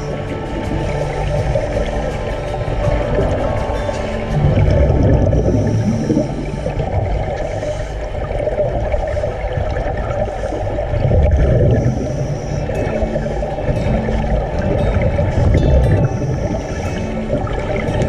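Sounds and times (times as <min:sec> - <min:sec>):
underwater regulator bubbles gurgling: 0:00.0 - 0:18.0.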